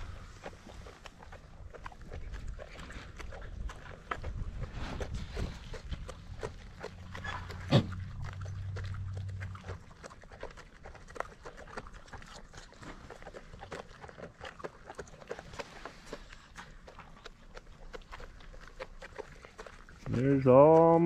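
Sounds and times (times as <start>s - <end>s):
farm animals shuffling: 0.0s - 21.0s
low steady hum: 0.0s - 21.0s.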